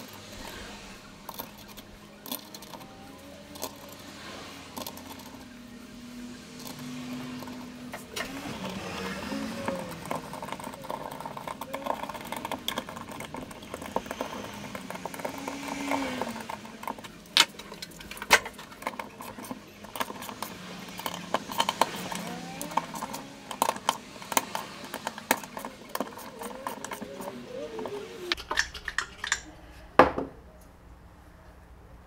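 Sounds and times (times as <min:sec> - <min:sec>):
metal parts and tools clinking: 0:00.0 - 0:29.6.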